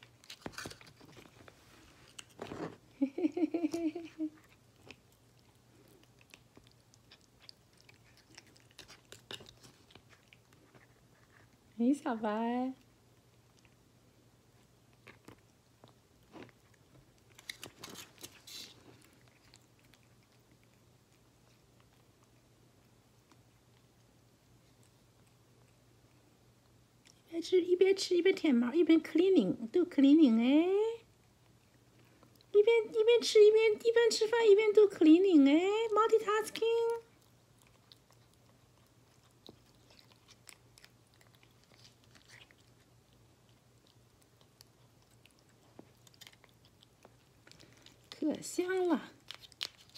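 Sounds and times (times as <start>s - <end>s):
cat chewing and licking: 0.0s - 28.5s, 31.0s - 49.9s
low steady hum: 0.0s - 49.9s.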